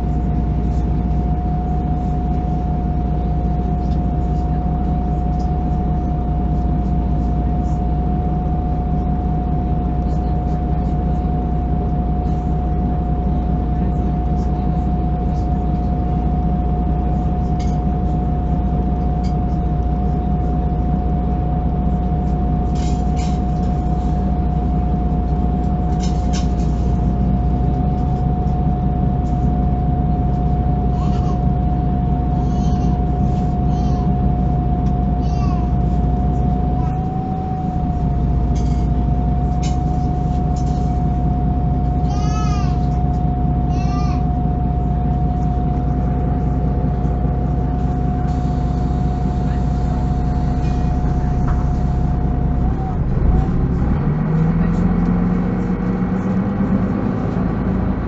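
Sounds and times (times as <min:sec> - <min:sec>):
bus engine droning: 0:00.0 - 0:58.0
mid-pitched whine: 0:00.0 - 0:58.0.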